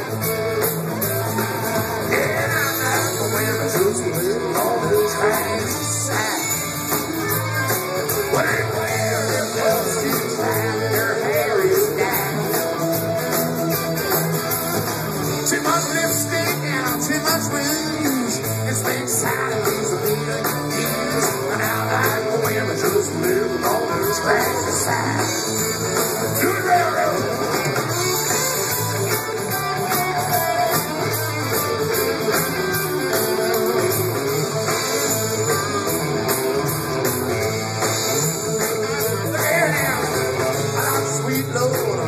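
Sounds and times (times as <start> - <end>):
live country band playing: 0.0 - 42.0.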